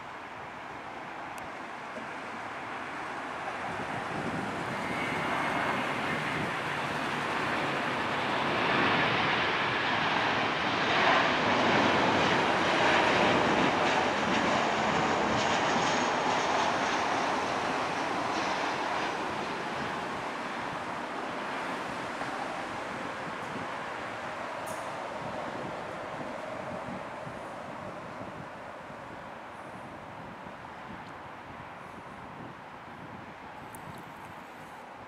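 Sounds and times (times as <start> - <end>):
jet engine rumble: 0.0 - 34.7.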